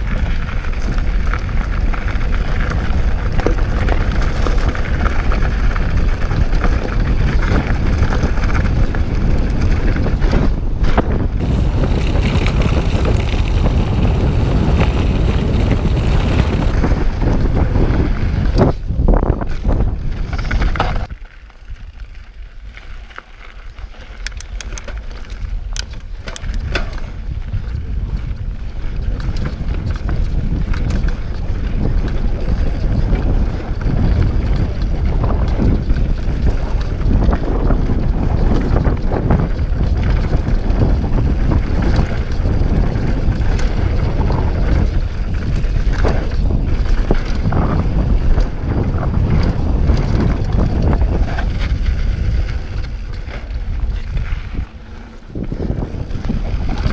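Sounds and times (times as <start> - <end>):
bike tyres rolling on gravel: 0.0 - 56.9
wind buffeting microphone: 0.0 - 56.9.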